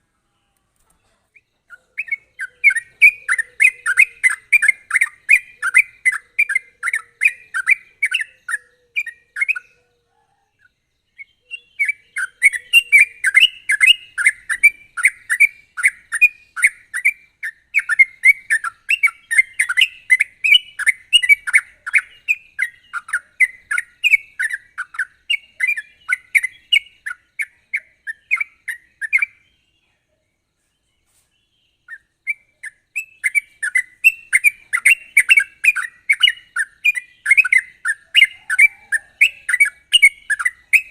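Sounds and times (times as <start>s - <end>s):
bird chirping song: 0.0s - 40.9s.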